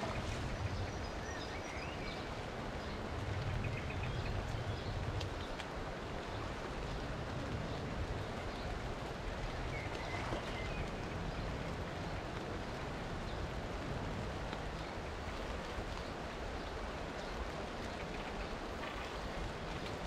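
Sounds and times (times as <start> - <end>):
rain falling on river: 0.0 - 20.0.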